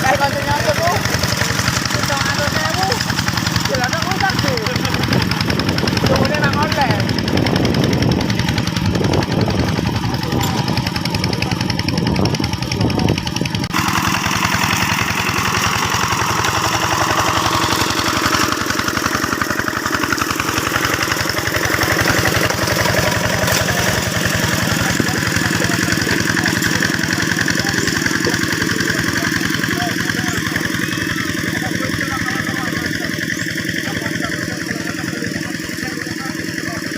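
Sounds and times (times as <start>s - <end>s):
diesel engine chugging: 0.0s - 36.9s.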